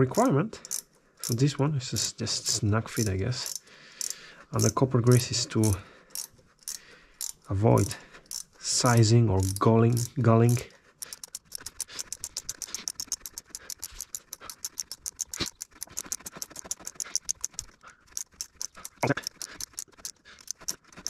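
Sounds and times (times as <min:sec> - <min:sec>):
hand ratchet clicking: 0:00.0 - 0:21.0.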